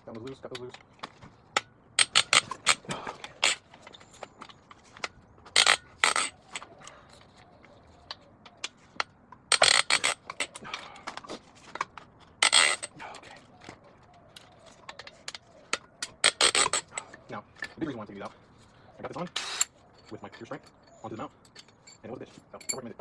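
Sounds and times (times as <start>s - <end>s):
metal tools clinking and scraping: 0.1s - 23.0s.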